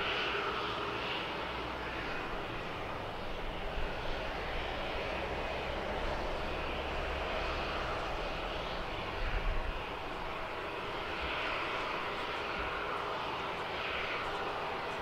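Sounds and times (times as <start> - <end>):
distant aircraft engines: 0.0 - 15.0.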